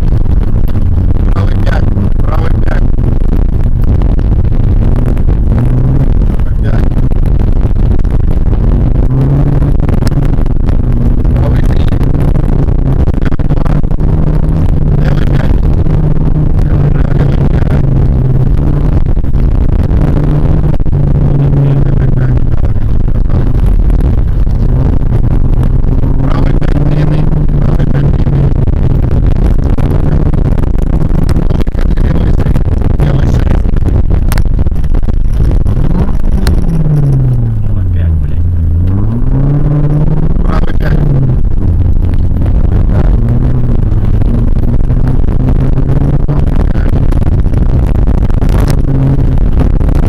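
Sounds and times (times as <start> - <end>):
car engine running hard: 0.0 - 50.0
rough road noise with knocks: 0.0 - 50.0.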